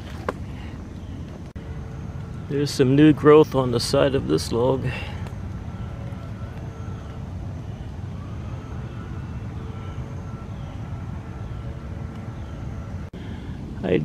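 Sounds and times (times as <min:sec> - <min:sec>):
faint sweeping calls: 0:00.0 - 0:14.0
low outdoor rumble: 0:00.0 - 0:14.0.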